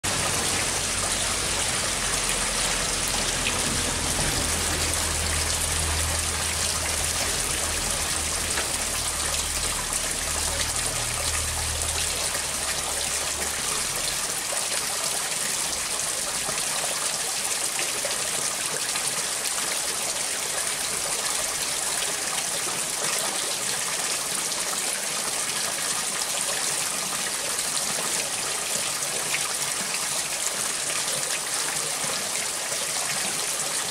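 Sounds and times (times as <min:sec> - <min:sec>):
water overflowing onto a board: 0:00.0 - 0:33.9
water pouring from a hose: 0:00.0 - 0:33.9.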